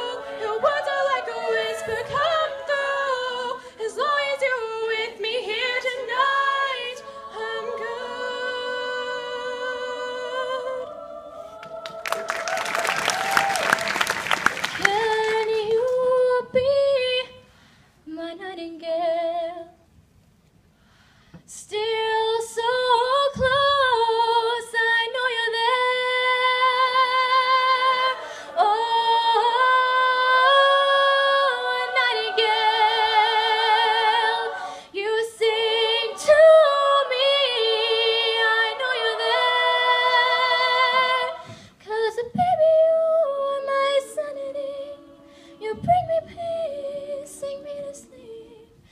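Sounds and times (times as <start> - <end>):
women singing in harmony: 0.0 - 13.6, 21.5 - 48.9.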